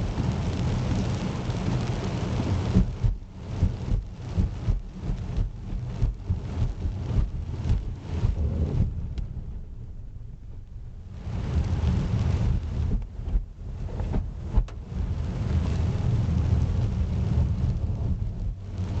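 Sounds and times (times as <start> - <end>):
heavy rain on a car: 0.0 - 19.0.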